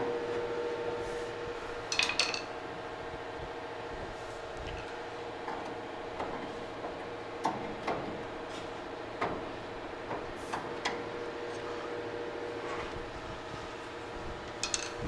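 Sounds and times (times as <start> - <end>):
shop hum: 0.0 - 15.0.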